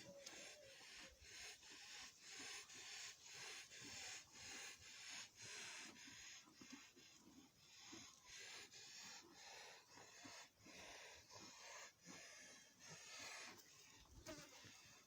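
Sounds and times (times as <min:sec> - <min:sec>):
cow breathing rapidly: 0:00.0 - 0:15.0.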